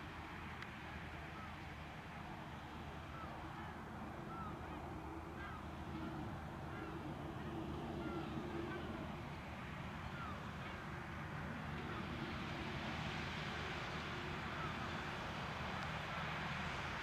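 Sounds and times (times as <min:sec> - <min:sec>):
tractor diesel engine running: 0:02.6 - 0:17.0.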